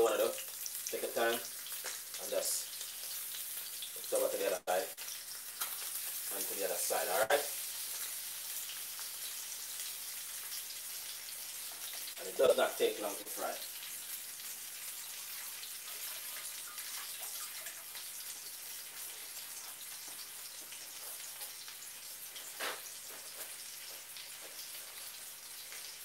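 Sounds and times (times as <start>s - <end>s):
fish sizzling in oil: 0.0s - 26.0s
oil crackling and popping: 0.0s - 26.0s.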